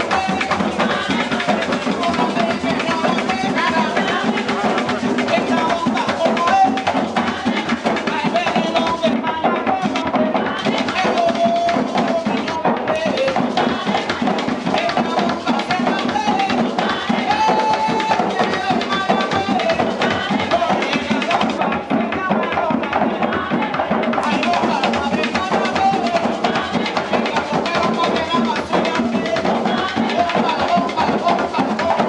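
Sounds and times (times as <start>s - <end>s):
hand drums playing: 0.0s - 32.0s
person singing: 0.0s - 32.0s.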